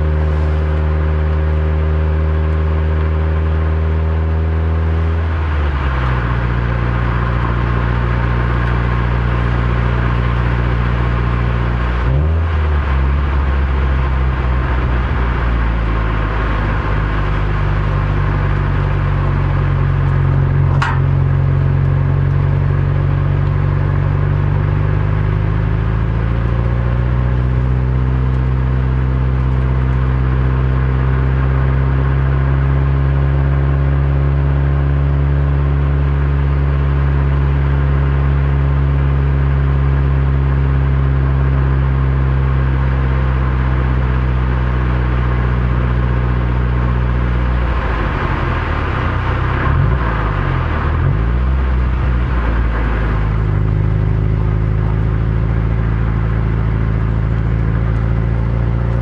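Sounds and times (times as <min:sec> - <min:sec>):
car engine from inside cabin: 0:00.0 - 0:59.0
road noise: 0:00.0 - 0:59.0.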